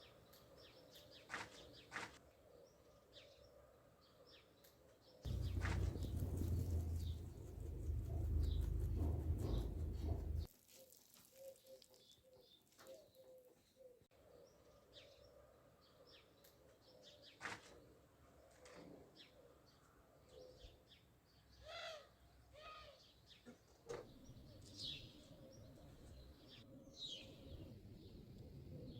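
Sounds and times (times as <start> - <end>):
faint birdsong: 0.0 - 10.5, 11.4 - 28.9.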